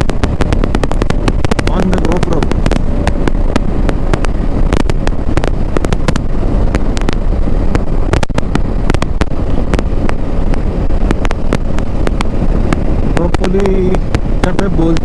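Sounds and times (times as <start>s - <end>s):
sharp crackling pops: 0.0s - 15.0s
wind rumbling on microphone: 0.0s - 15.0s.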